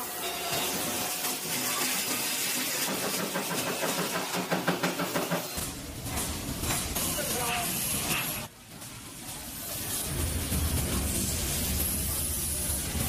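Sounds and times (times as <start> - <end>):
bending machine hissing: 0.0 - 13.0.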